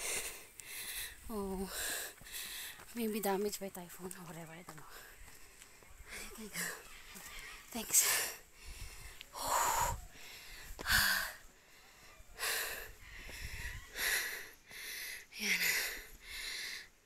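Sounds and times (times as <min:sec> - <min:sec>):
heavy rhythmic breathing: 0:00.0 - 0:02.9, 0:04.8 - 0:17.0.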